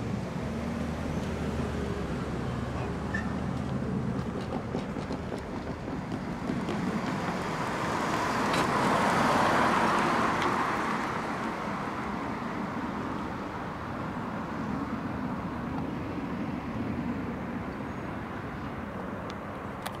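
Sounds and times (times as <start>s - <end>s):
road vehicle passing: 0.0s - 20.0s
traffic rumble: 0.0s - 20.0s.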